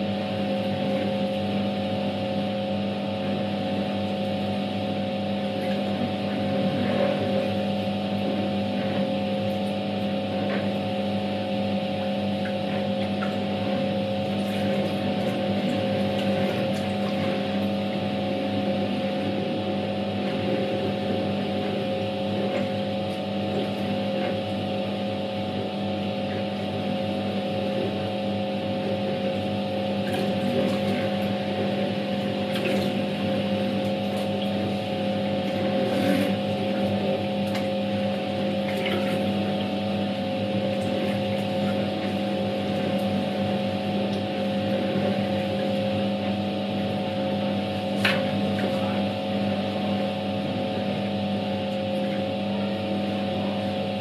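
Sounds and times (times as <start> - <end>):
washing machine motor humming: 0.0 - 54.0
water and clothes churning: 3.3 - 52.5.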